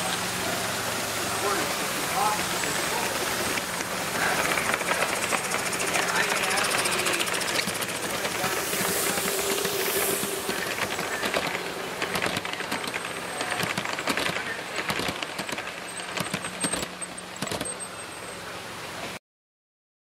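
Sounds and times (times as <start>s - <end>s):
steam hissing: 0.0s - 19.0s
train wheels clicking over track: 1.2s - 18.0s.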